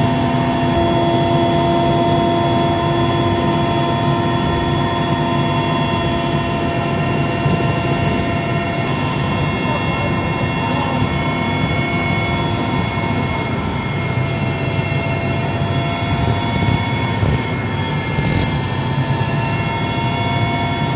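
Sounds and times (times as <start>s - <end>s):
aircraft engine drone: 0.0s - 20.9s
steady whining tones: 0.0s - 20.9s.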